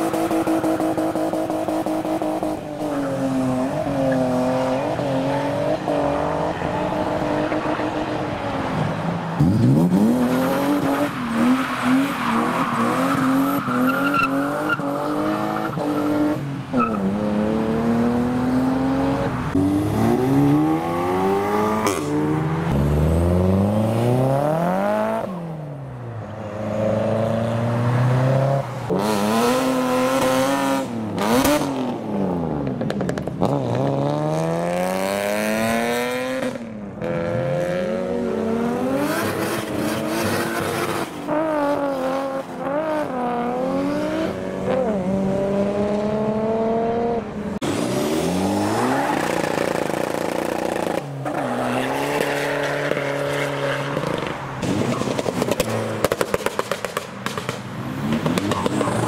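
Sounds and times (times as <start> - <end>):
car engines revving hard: 0.0 - 59.0.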